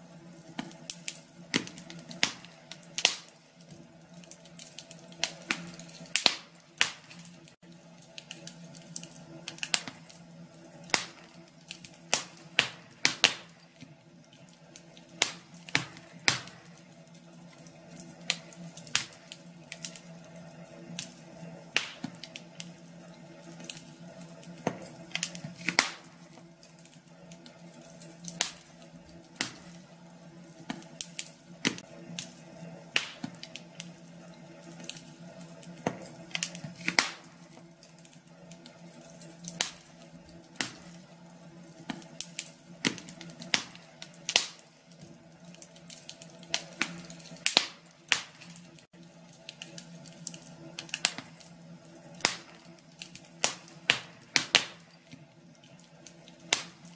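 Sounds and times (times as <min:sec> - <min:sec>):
faint steady hum: 0:00.0 - 0:56.9
wood fire crackling: 0:00.0 - 0:56.9.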